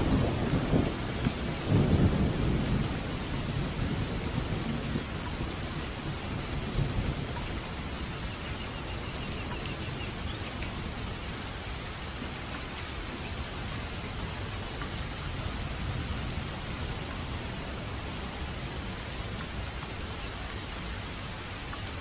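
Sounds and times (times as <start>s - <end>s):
low rumble of thunder: 0.0s - 22.0s
rain falling on a roof: 0.0s - 22.0s.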